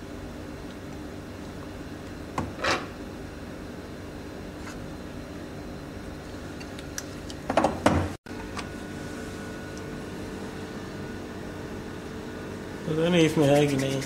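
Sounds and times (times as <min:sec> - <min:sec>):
lab equipment hum: 0:00.0 - 0:14.0.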